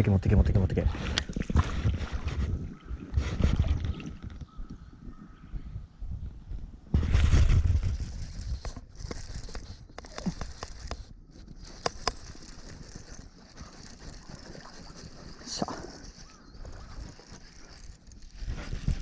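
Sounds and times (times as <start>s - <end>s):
rod sweep and wind noise: 0.8s - 4.6s, 6.9s - 19.0s.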